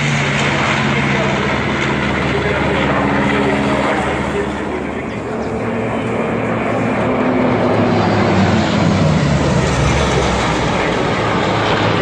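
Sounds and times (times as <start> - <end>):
plane flying past: 0.0 - 12.0.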